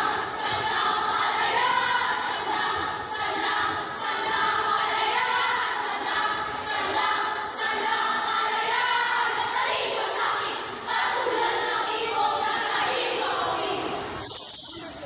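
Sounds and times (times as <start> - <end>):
children reciting in unison: 0.0 - 14.6.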